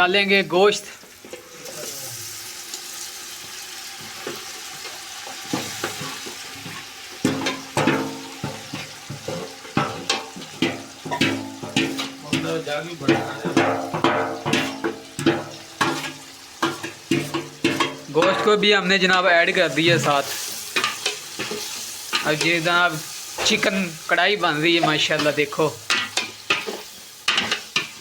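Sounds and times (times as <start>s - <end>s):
chicken sizzling in a pan: 0.0s - 28.0s
metal ladle scraping a pan: 4.0s - 23.8s, 24.5s - 28.0s.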